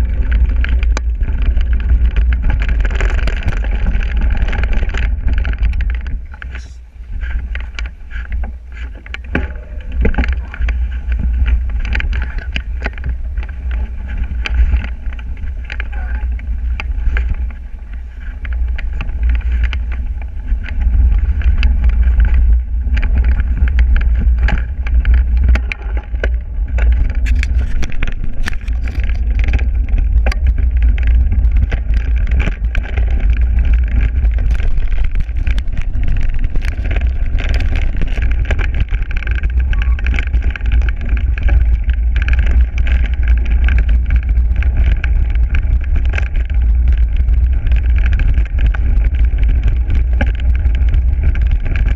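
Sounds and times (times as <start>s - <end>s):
bike clicking and rattling over bumps: 0.0s - 51.9s
wind and trail vibration rumble: 0.0s - 51.9s.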